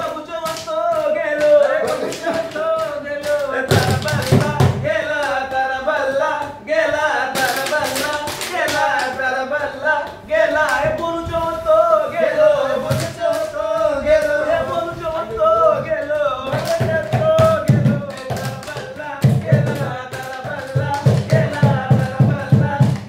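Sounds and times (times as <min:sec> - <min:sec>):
percussion strikes: 0:00.0 - 0:11.6, 0:12.2 - 0:23.0
group of voices singing: 0:00.0 - 0:23.0.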